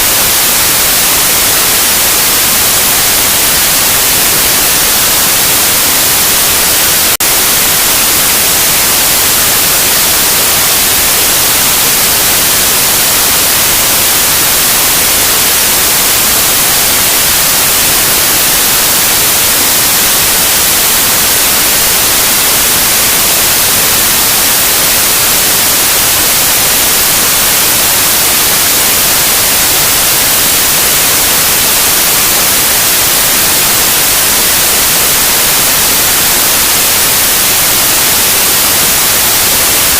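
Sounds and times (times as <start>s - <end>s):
loud white noise hiss: 0.0s - 39.9s.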